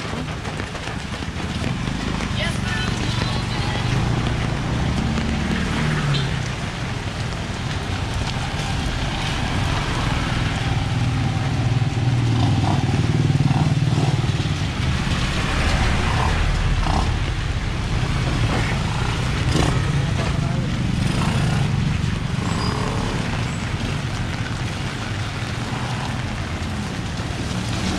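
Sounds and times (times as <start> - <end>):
vehicle engines in traffic: 0.0 - 27.9.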